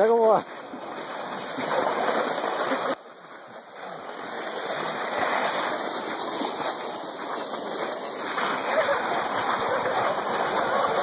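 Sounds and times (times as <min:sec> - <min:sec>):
footsteps crunching in snow: 0:00.0 - 0:11.0
sled scraping over snow: 0:00.0 - 0:11.0.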